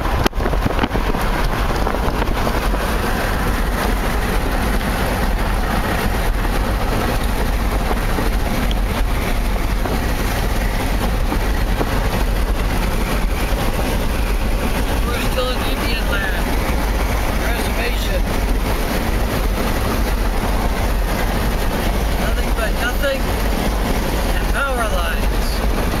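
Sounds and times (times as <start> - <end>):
road and wind noise inside vehicle: 0.0 - 26.0.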